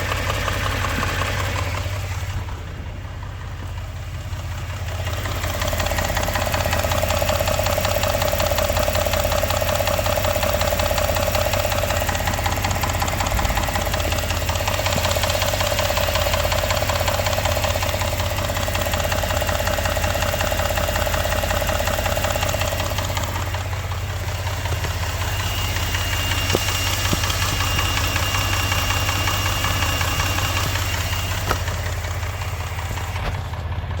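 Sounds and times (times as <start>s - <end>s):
engine running with rhythmic knock: 0.0s - 34.0s.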